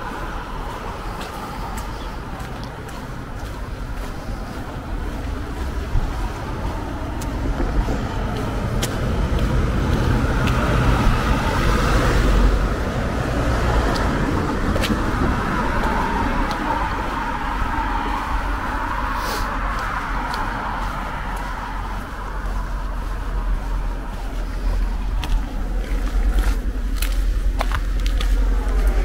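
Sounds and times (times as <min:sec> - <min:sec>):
cars and van driving past: 0:00.0 - 0:29.0.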